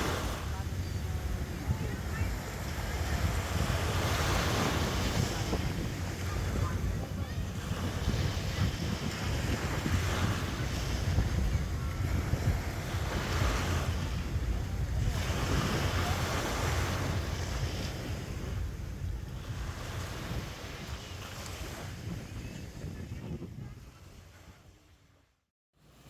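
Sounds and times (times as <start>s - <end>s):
sea waves washing on sand: 0.0s - 24.4s
wind rumbling on microphone: 0.0s - 25.2s.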